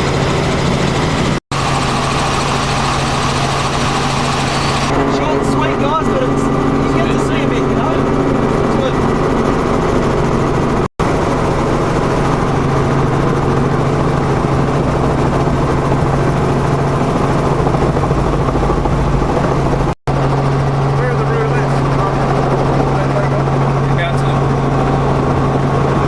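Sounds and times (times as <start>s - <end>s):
piston aircraft engine droning: 0.0s - 26.0s.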